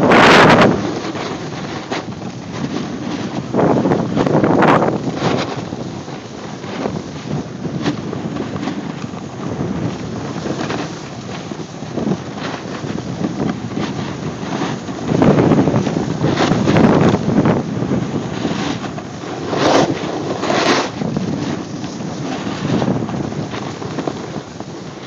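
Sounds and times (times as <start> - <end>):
snowboard scraping over snow: 0.0 - 25.0
wind on microphone: 0.0 - 25.0.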